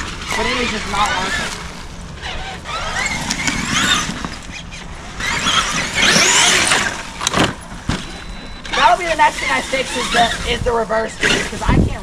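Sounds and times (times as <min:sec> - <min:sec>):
electric motor whining: 0:00.0 - 0:12.0
tyres on dirt: 0:00.0 - 0:12.0.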